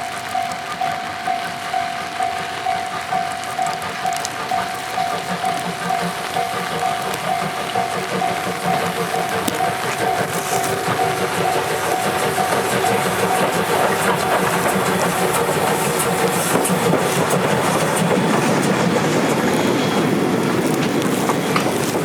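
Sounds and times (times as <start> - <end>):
train wheels clattering over rail joints: 0.0 - 22.0.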